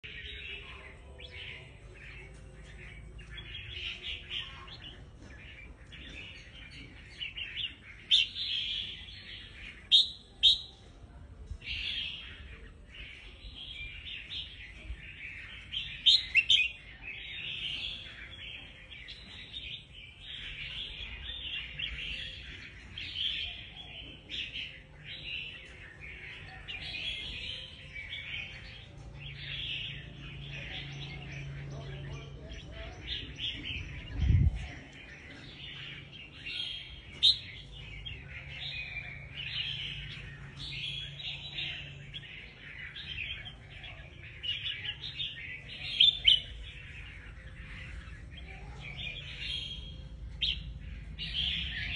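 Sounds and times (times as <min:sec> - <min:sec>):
bird chirping and singing: 0:00.0 - 0:51.9.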